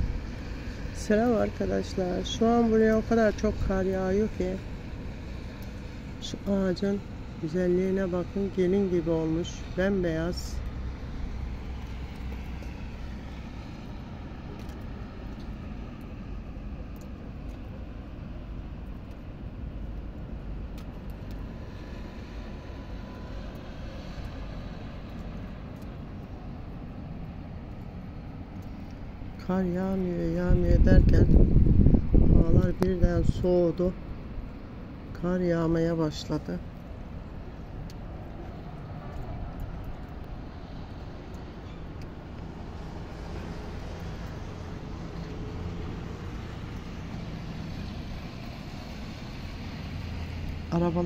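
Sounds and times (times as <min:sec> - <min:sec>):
city background rumble: 0:00.0 - 0:51.0.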